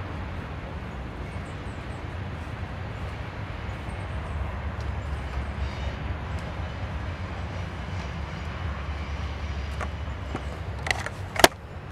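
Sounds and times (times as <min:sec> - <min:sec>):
low outdoor rumble: 0:00.0 - 0:11.9.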